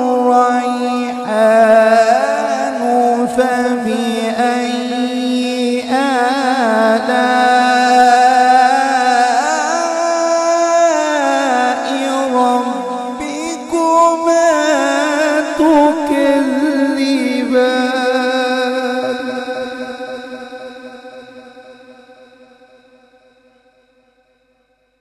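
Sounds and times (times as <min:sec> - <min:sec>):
man reciting melodic chant: 0:00.0 - 0:21.5.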